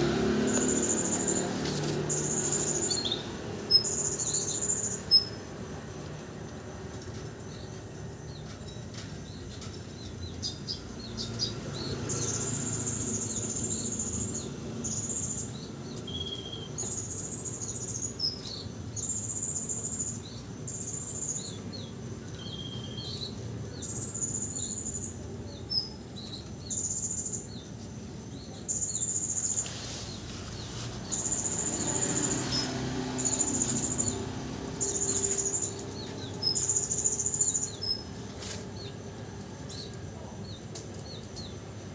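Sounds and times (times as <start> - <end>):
bird chirps: 0.0 - 5.5, 7.5 - 41.6.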